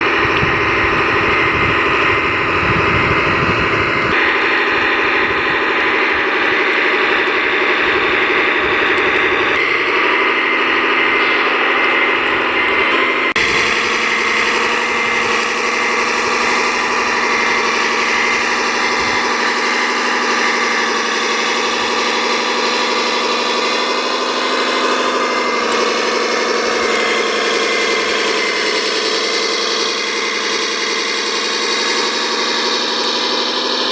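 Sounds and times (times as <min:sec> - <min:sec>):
rc machine engines humming: 0:00.0 - 0:33.9.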